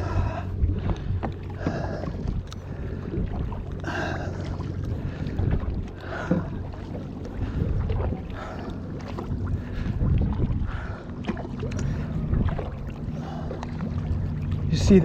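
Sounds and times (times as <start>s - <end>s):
kayak paddle strokes in water: 0.0s - 15.0s
low steady hum: 0.0s - 15.0s
wind buffeting microphone: 0.0s - 15.0s.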